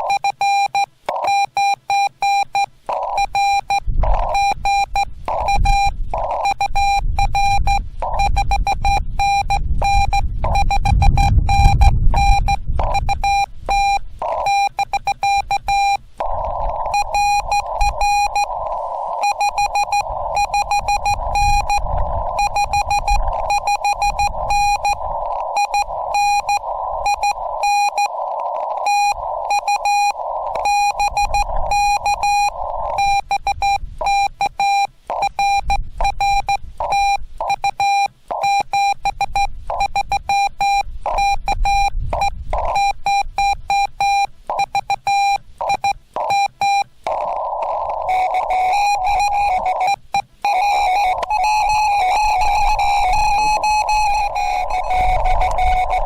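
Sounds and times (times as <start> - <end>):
morse code beeps: 0.0 - 56.0
receiver hiss: 0.0 - 56.0.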